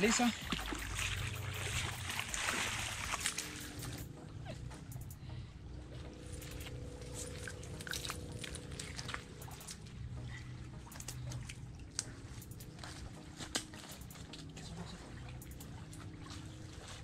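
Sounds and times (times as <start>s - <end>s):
water dripping from net: 0.0s - 4.1s, 6.4s - 17.0s.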